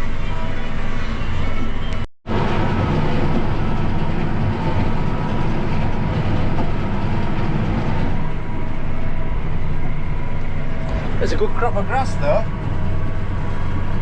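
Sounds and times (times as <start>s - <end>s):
tractor engine running: 0.0s - 14.0s
hay baler working: 2.3s - 14.0s.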